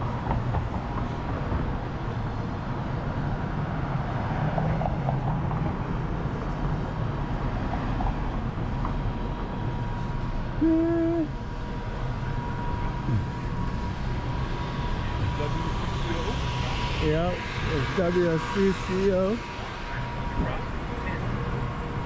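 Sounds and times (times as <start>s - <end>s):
rumble of passing vehicles: 0.0s - 22.0s.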